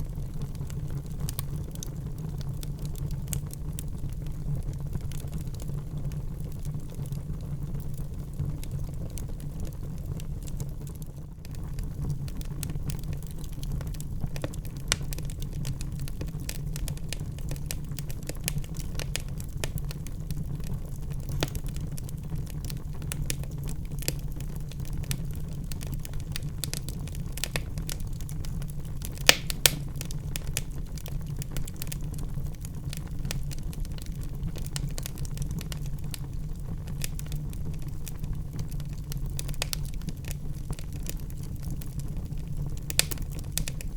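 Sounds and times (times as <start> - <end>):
fire crackling and popping: 0.0 - 43.9
wood fire rumbling: 0.0 - 43.9.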